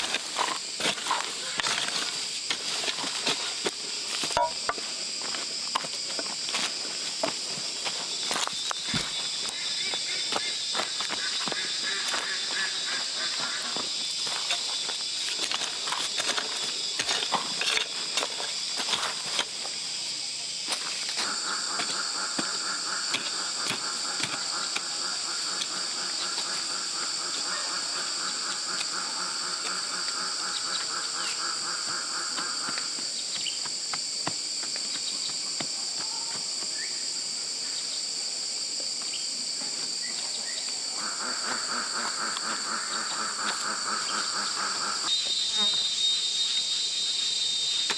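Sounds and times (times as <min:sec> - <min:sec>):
insects chirping chorus: 0:00.0 - 0:47.9.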